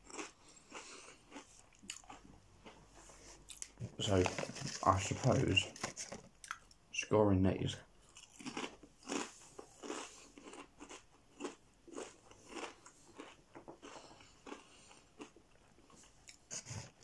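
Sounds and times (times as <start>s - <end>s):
person chewing crisp: 0.0s - 5.2s, 8.0s - 17.0s.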